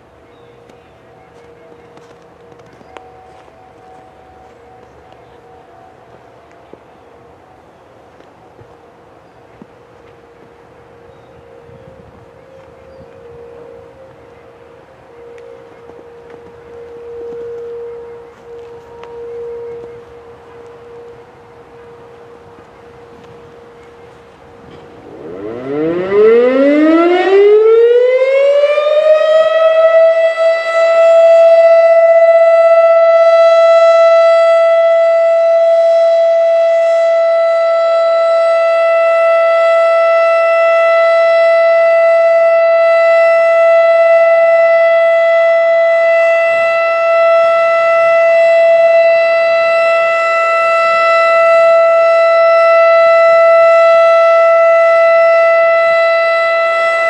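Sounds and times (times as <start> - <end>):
warning siren wailing: 0.0 - 57.0.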